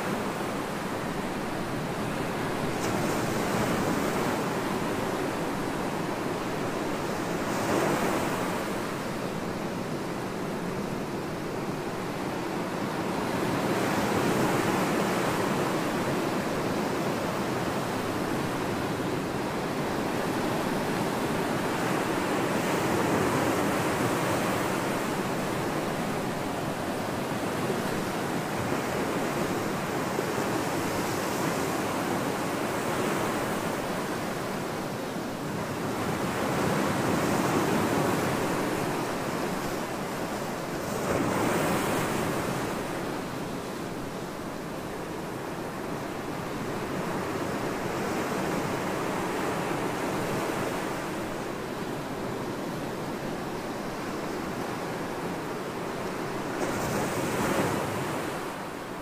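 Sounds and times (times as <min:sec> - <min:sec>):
ocean waves breaking on a beach: 0:00.0 - 0:59.0.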